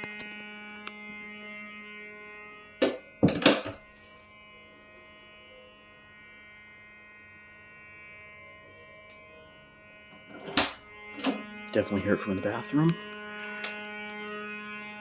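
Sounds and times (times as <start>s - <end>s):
electronic keyboard buzzing tone: 0.0s - 15.0s.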